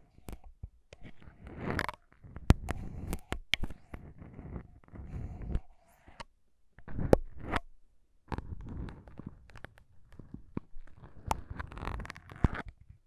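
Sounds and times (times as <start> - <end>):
syringe tips scratching foam: 0.1 - 6.2, 8.3 - 12.8.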